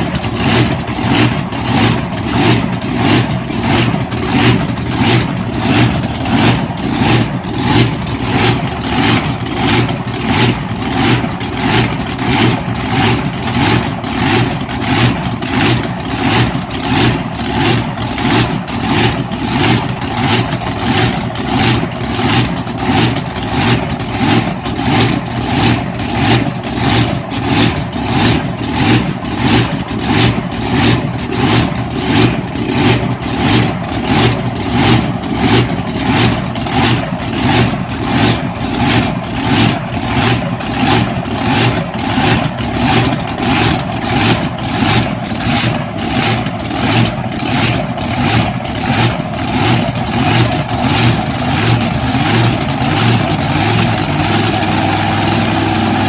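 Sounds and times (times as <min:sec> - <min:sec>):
boat engine idling: 0:00.0 - 0:56.0.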